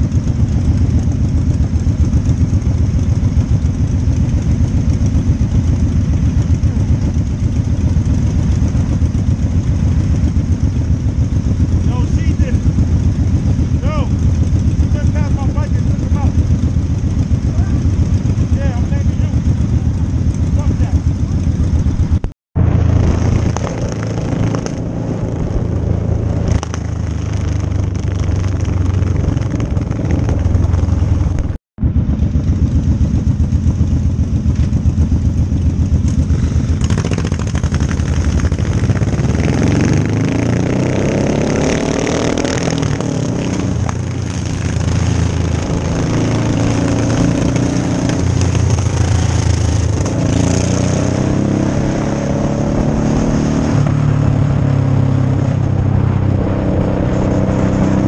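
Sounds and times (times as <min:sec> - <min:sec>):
motorcycle engines accelerating: 0:00.0 - 0:58.0.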